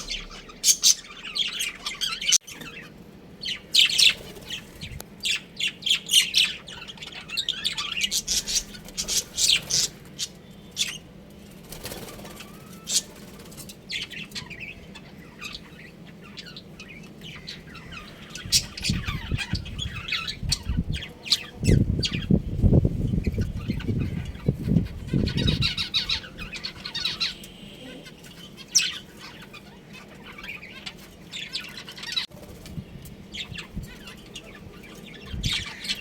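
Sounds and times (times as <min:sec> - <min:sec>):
budgerigars chirping: 0:00.0 - 0:11.1, 0:12.1 - 0:13.2, 0:13.9 - 0:22.4, 0:23.1 - 0:32.3, 0:33.3 - 0:36.0.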